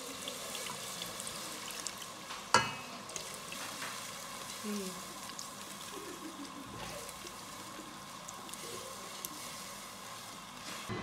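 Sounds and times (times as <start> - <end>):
pot simmering with soft sizzle: 0.0 - 11.0.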